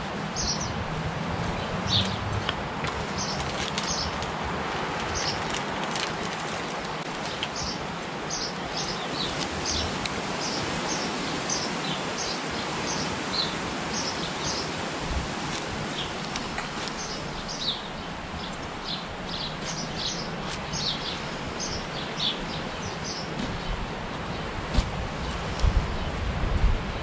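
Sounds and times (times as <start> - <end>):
steady outdoor hiss: 0.0 - 27.0
small birds chirping: 0.3 - 0.8, 1.4 - 4.2, 5.1 - 24.5.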